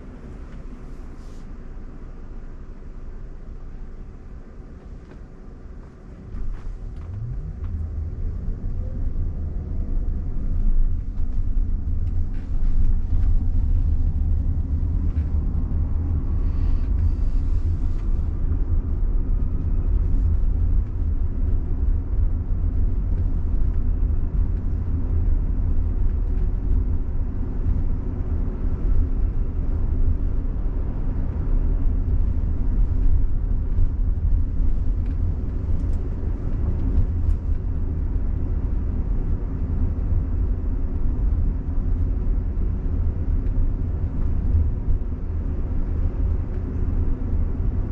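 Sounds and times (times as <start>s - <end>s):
road and tyre rumble in car: 0.0s - 47.9s.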